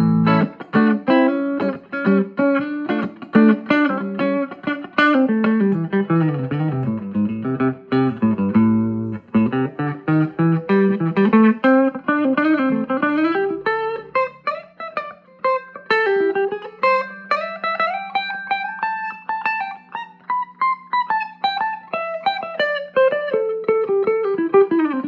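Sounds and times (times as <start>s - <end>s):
electric guitar picked notes and chords: 0.0s - 25.0s.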